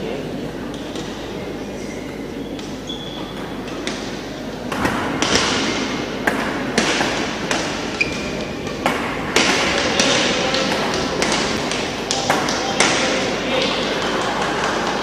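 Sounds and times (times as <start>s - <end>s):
rackets hitting shuttlecock: 2.6s - 15.0s.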